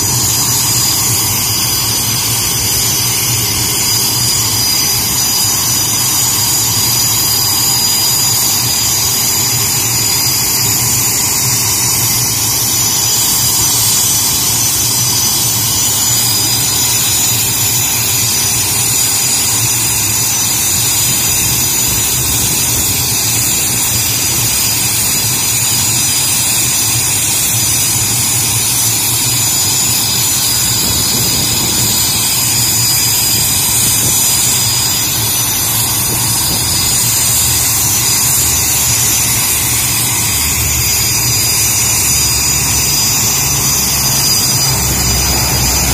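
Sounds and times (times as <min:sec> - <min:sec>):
jet engine whine and rumble: 0:00.0 - 0:45.9.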